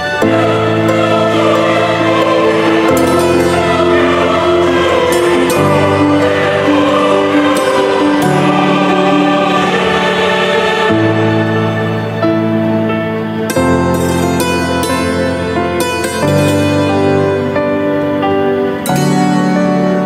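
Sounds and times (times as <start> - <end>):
voices singing over sustained chords: 0.0 - 20.0.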